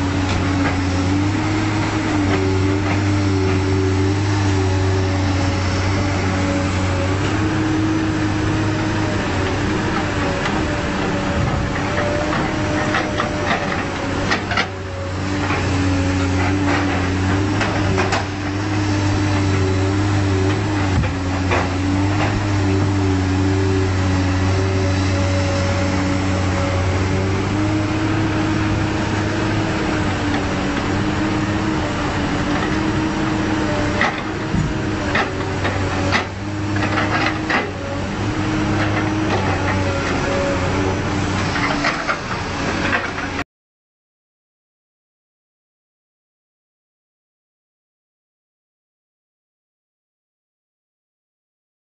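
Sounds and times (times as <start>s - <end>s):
heavy machinery engines running: 0.0s - 43.4s.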